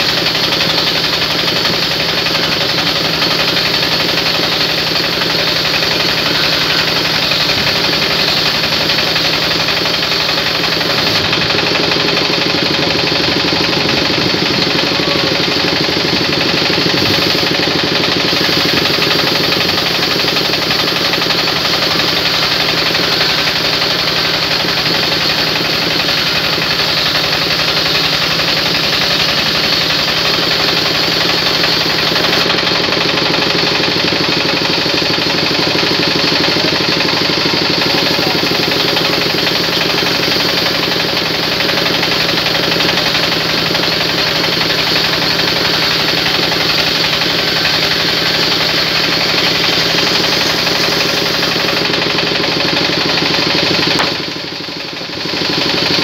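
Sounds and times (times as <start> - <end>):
band saw motor hum: 0.0 - 56.0
saw cutting wood: 0.0 - 56.0.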